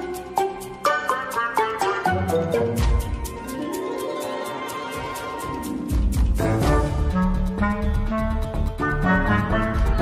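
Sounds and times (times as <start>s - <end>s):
music with ticking beat: 0.0s - 4.1s, 4.9s - 10.0s.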